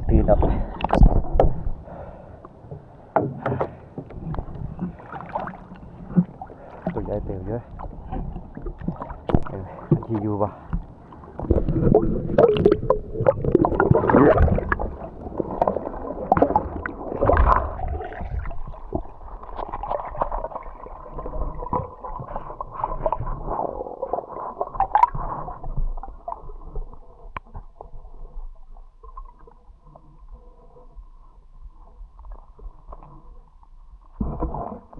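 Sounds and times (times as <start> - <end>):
underwater gurgling and sloshing: 0.0 - 34.9.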